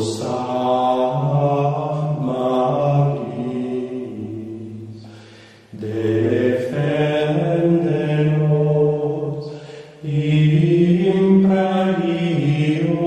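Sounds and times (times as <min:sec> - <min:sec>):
chant being sung: 0:00.0 - 0:13.0.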